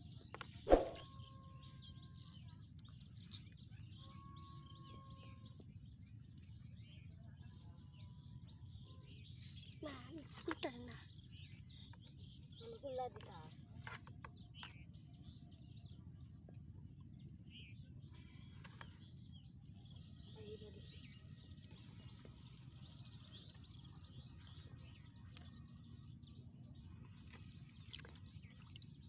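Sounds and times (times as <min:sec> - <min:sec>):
faint bird chirps: 0:00.0 - 0:29.0.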